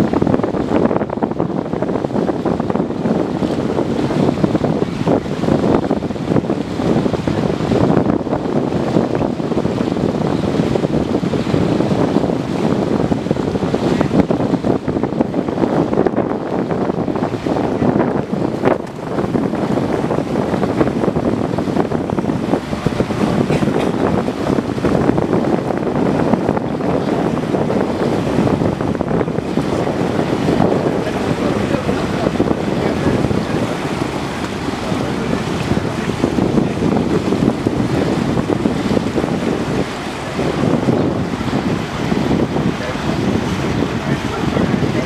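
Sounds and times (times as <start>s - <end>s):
water washing along boat hull: 0.0s - 45.0s
wind buffeting microphone: 0.0s - 45.0s.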